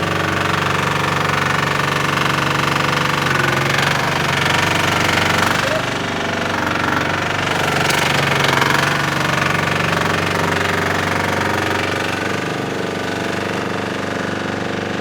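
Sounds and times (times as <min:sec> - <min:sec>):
diesel digger engine knocking: 0:00.0 - 0:15.0.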